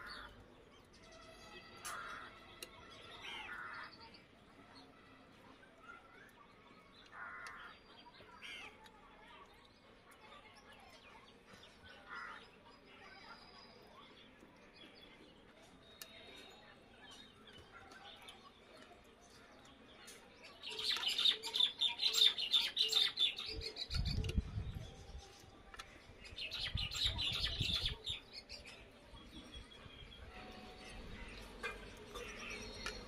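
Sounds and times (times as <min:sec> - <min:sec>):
small birds twittering: 0:00.0 - 0:04.9, 0:05.6 - 0:33.0.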